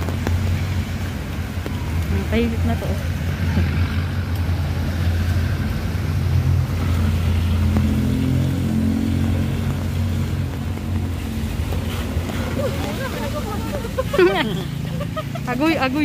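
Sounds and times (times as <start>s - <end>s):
traffic on wet road: 0.0s - 16.0s
vehicle engine humming: 0.0s - 16.0s.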